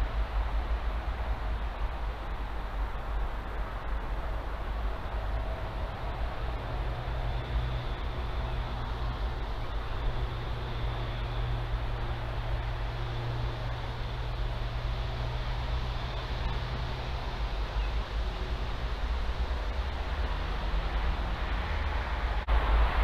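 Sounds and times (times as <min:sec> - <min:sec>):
outdoor rumble and hiss: 0:00.0 - 0:23.0.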